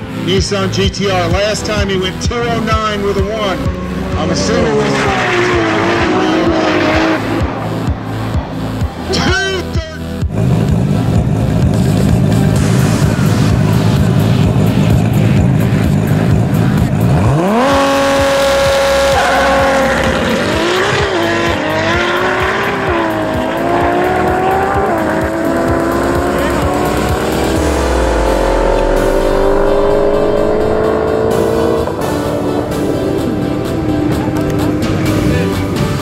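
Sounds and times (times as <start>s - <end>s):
car engine revving at full throttle: 0.0s - 36.0s
music: 0.0s - 36.0s.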